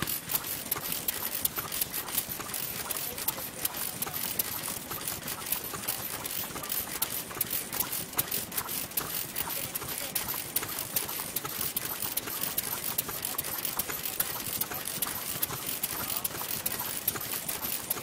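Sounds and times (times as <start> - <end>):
old engines ticking: 0.0 - 18.0
stationary engine clattering: 0.0 - 18.0.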